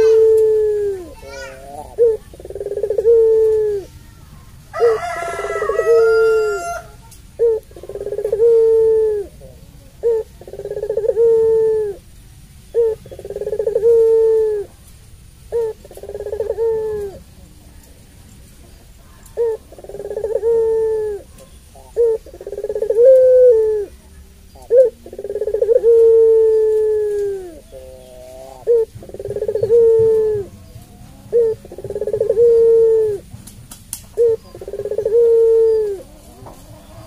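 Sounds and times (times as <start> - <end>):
dove cooing: 0.0 - 3.9, 4.7 - 17.5, 18.6 - 37.0.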